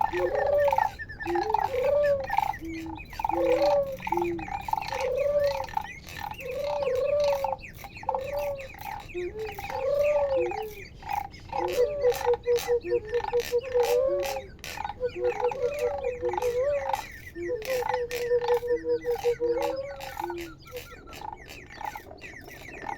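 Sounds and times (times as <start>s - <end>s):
arching hoots: 0.0s - 22.9s
faint chirps: 0.0s - 22.9s.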